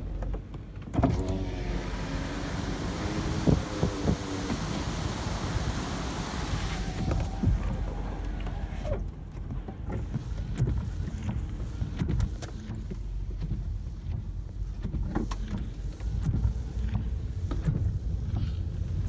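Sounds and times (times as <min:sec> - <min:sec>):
wind rumbling against car: 0:00.0 - 0:19.0
rain tapping on car: 0:01.9 - 0:19.0.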